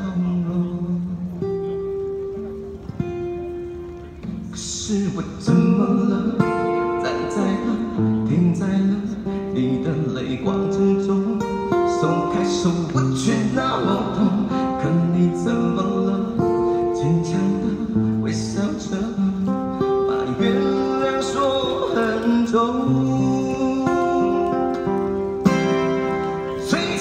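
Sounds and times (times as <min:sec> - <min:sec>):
man singing pop ballad: 0:00.0 - 0:01.8, 0:04.3 - 0:27.0
strummed acoustic guitar: 0:00.0 - 0:27.0.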